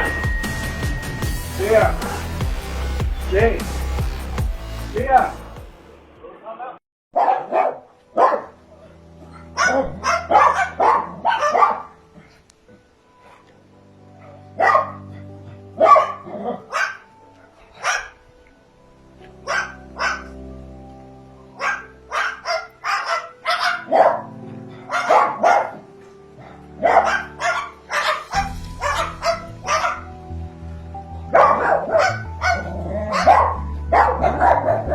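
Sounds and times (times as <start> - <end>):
background music with sustained tones: 0.0 - 6.4, 7.2 - 34.9.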